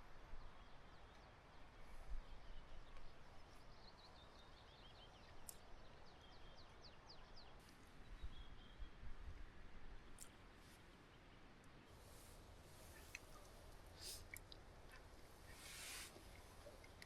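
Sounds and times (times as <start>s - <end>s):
steady outdoor hiss: 0.0s - 17.0s
faint songbird chirps: 0.1s - 9.3s, 10.0s - 17.0s.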